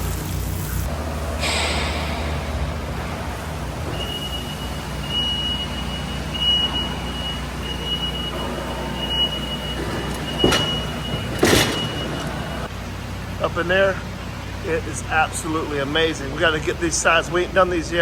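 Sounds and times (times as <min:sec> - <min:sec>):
machinery rumble: 0:00.0 - 0:18.0.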